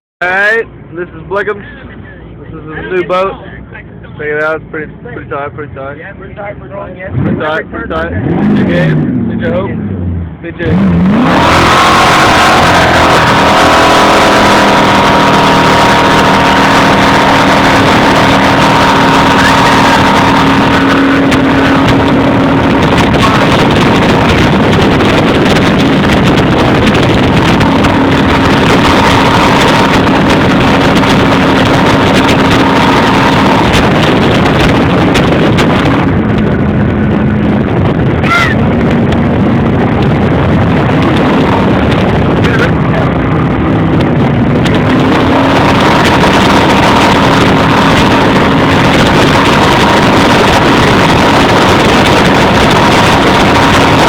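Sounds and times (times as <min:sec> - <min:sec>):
boat engine running: 0:00.2 - 0:54.0
wind noise: 0:07.1 - 0:54.0
rushing water: 0:08.2 - 0:54.0.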